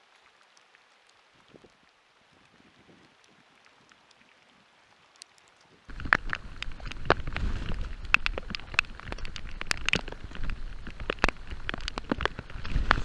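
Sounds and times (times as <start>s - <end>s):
rain drops ticking: 0.0s - 13.0s.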